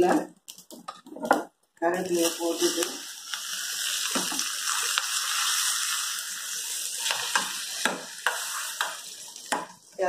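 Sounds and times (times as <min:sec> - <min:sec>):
hot oil sizzling: 0:00.0 - 0:10.0.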